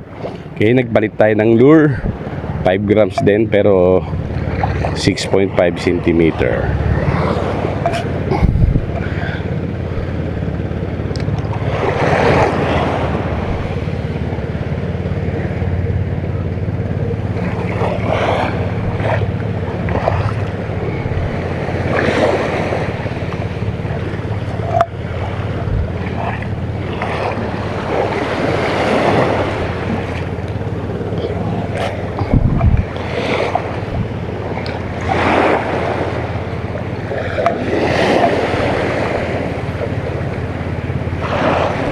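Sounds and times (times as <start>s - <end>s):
sea waves washing onto beach: 0.0s - 41.9s
steady low hum: 0.0s - 41.9s
wind buffeting microphone: 0.0s - 41.9s.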